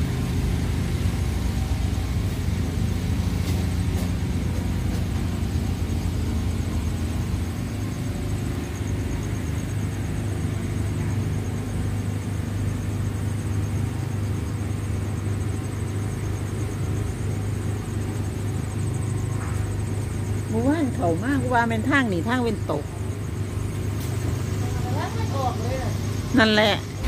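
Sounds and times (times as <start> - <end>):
generator humming: 0.0 - 27.0
insects trilling: 0.0 - 27.0.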